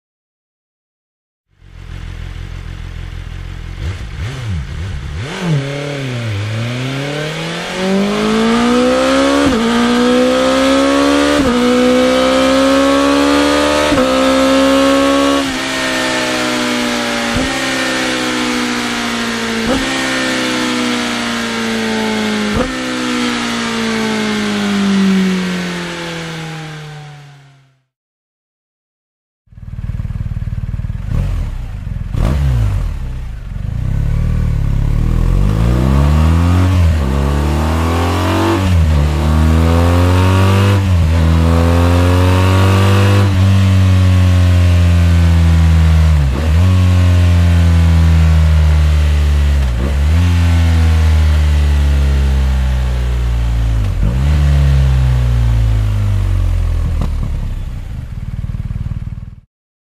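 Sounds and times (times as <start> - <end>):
motorcycle engine accelerating: 1.5 - 27.9, 29.5 - 59.5.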